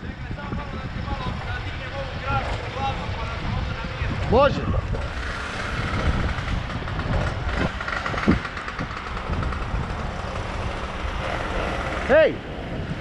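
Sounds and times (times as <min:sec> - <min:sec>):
gusty wind on microphone: 0:00.0 - 0:13.0.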